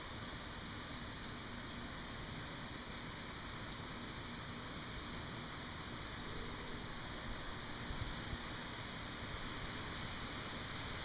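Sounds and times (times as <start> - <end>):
hurricane wind hiss: 0.0 - 11.0.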